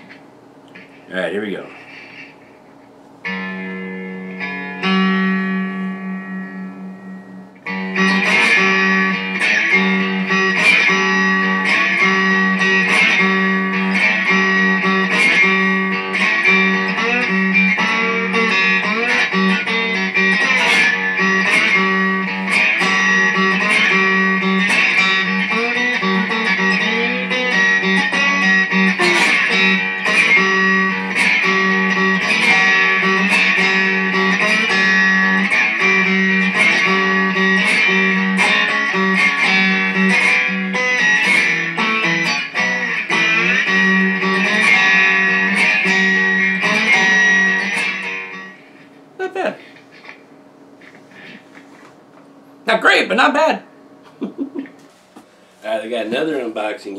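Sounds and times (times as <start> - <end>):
distorted slide guitar riff: 3.2 - 51.5.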